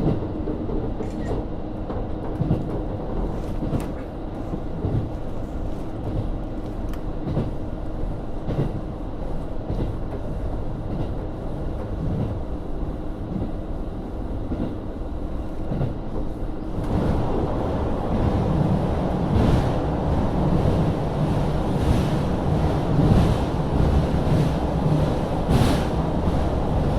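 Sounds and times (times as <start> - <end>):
diesel railcar rumble: 0.0 - 26.9.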